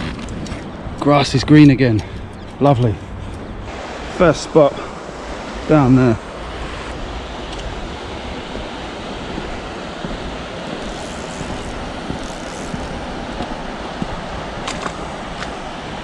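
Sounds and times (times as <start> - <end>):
flowing river water: 0.3 - 16.0
wind on microphone: 2.1 - 16.0.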